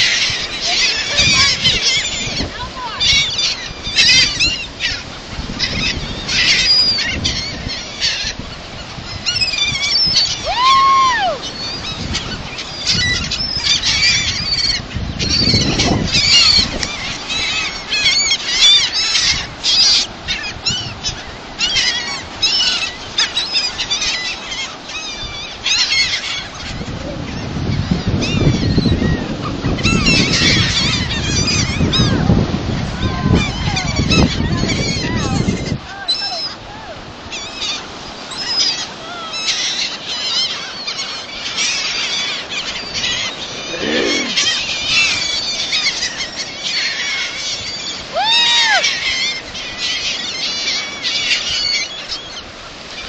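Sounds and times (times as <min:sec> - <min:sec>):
gulls squawking: 0:00.0 - 0:53.0.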